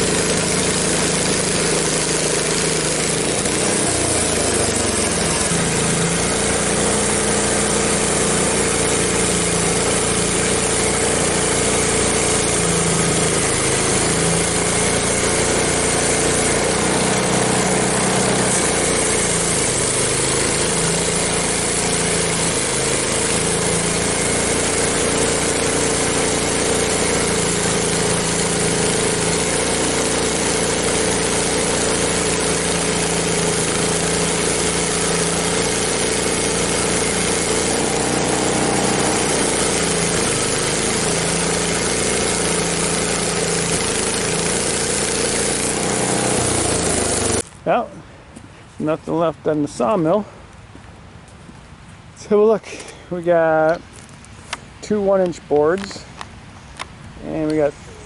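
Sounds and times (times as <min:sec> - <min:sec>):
bandsaw sawmill running: 0:00.0 - 0:47.9, 0:52.2 - 0:56.1.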